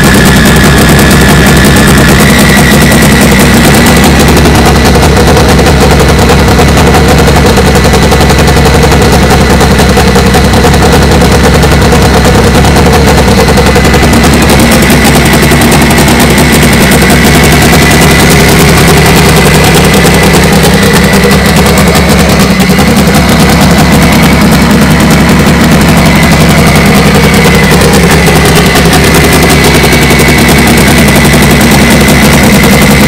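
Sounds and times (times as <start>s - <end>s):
high turbo whine: 0.0s - 33.0s
rough engine idling crackling: 0.0s - 33.0s.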